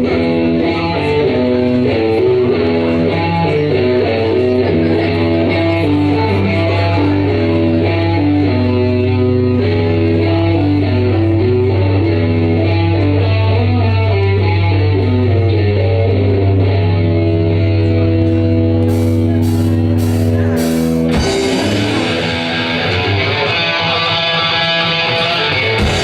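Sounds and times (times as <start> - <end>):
guitar chords: 0.0 - 26.0.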